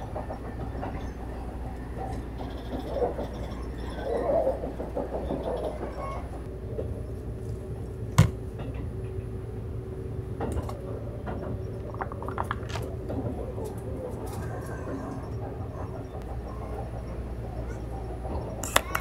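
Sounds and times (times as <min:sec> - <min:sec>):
electric train rumble: 0:00.0 - 0:19.0.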